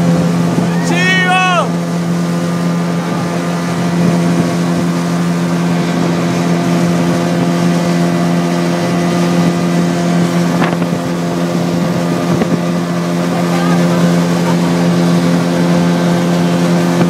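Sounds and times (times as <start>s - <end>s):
outboard motor running: 0.0s - 17.0s
water rushing past hull: 0.0s - 17.0s.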